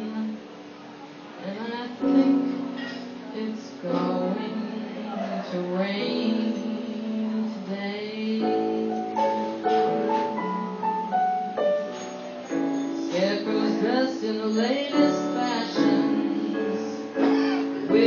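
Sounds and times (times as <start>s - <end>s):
piano ballad melody: 0.0s - 18.0s.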